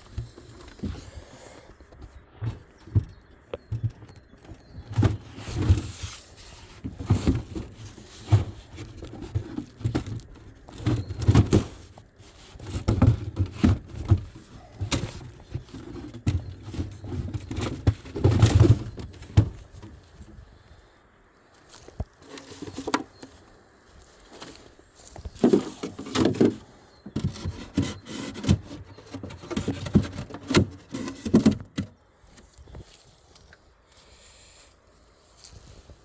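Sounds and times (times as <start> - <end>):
knocks and scrapes of handling: 0.0 - 20.5, 21.6 - 33.6.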